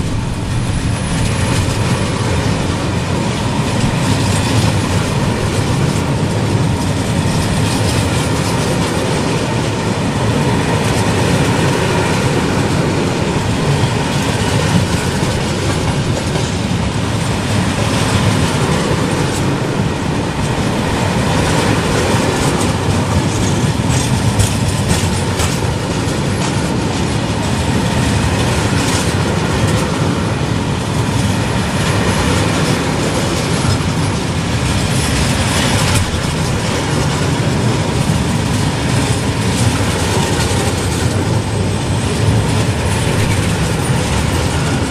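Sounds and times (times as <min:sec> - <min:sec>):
train wheels rumbling on rails: 0:00.0 - 0:44.9
wheels clicking over rail joints: 0:00.0 - 0:44.9.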